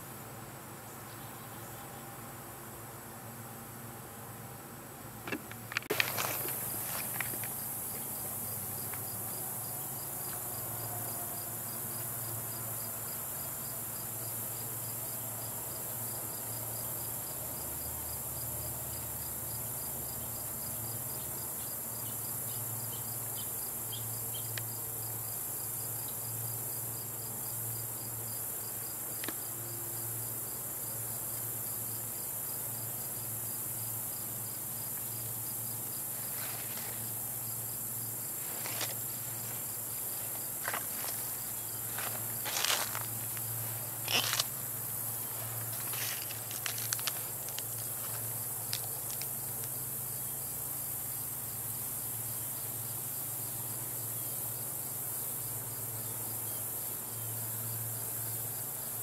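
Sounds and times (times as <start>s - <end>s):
crickets chirping: 0.0s - 59.0s
high insect buzz: 0.0s - 59.0s.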